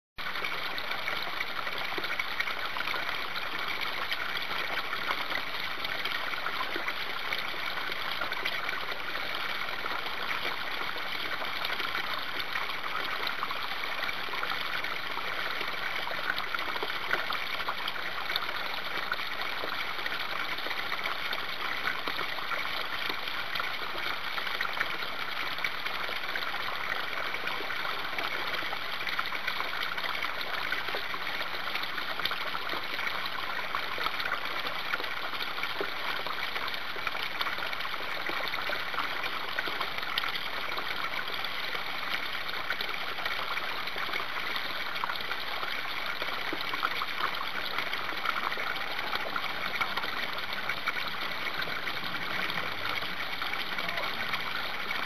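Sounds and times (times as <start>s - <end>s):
stream falling over rocks: 0.2s - 55.0s.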